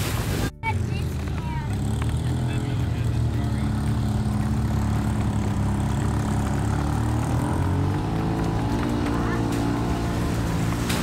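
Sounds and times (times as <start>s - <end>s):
car engine droning: 0.5s - 11.0s.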